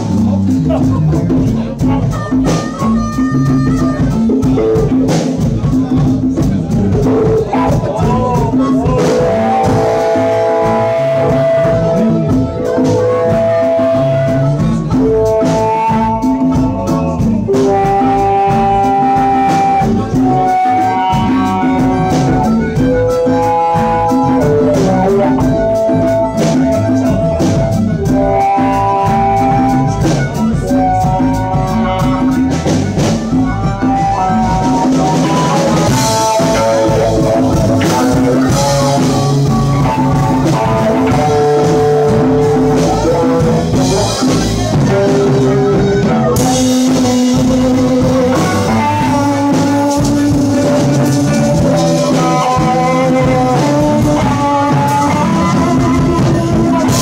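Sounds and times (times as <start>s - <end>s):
blues-rock band jamming: 0.0s - 57.0s
drums: 0.0s - 57.0s
electric guitar lead lines: 0.0s - 57.0s.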